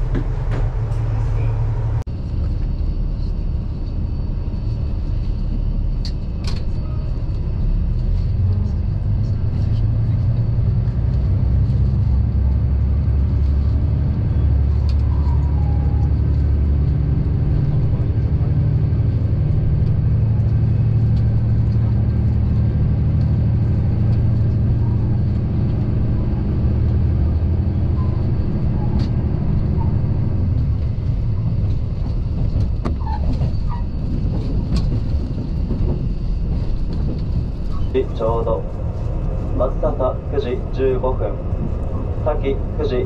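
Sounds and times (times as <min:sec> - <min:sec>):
diesel engine low drone: 0:00.0 - 0:43.0
train rumble: 0:00.0 - 0:43.0.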